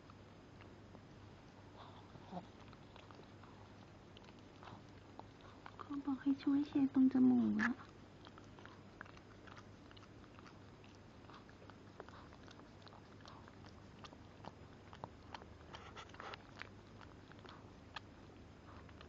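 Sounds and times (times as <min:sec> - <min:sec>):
dog licking puppy: 0:00.0 - 0:19.0.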